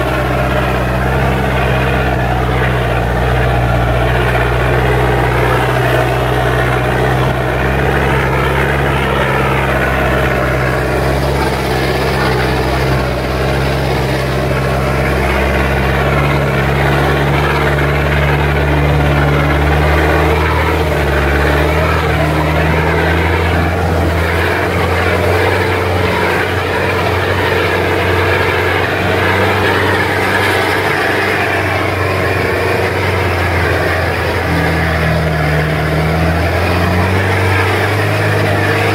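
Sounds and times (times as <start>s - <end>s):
off-road vehicle engine droning: 0.0s - 38.9s.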